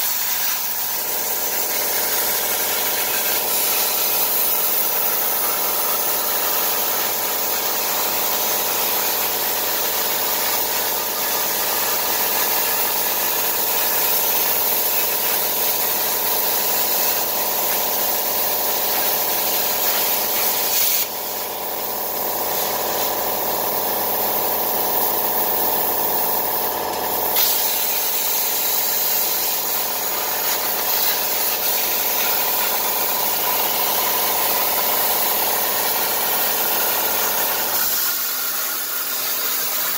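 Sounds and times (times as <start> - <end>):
plasma cutting arc hissing: 0.0 - 39.9.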